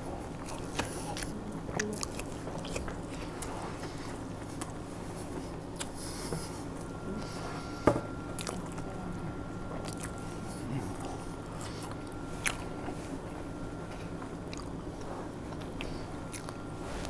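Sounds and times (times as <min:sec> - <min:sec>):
person chewing food: 0:00.1 - 0:09.0, 0:09.7 - 0:17.0.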